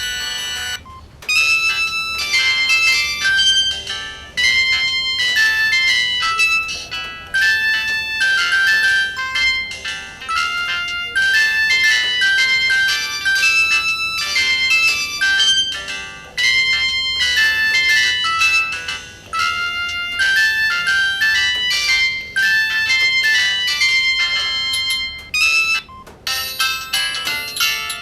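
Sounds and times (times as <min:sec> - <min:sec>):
polyphonic phone ringtone: 0:00.0 - 0:28.0.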